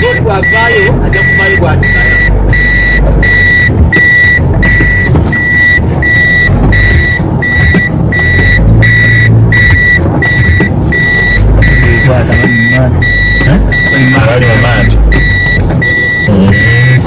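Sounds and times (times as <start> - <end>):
low engine rumble: 0.0 - 17.0
reversing warning beeper: 0.0 - 17.0.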